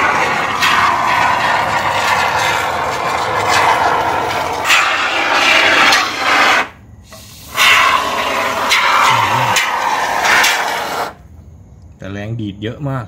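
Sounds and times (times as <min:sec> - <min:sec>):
aerosol foam spraying hiss: 0:00.0 - 0:11.2.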